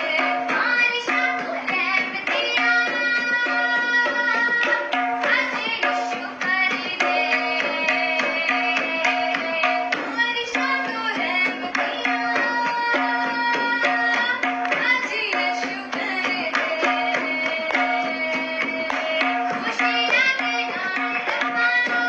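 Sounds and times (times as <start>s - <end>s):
hand drums: 0.0s - 22.0s.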